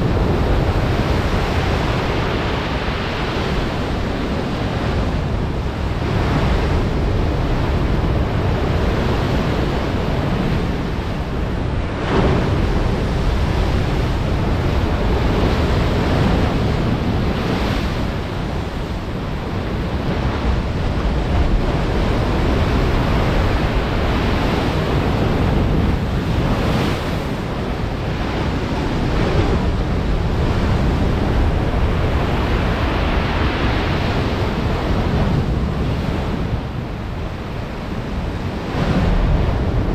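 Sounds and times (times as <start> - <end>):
waves breaking heavily: 0.0 - 39.9
wind buffeting microphone: 0.0 - 39.9.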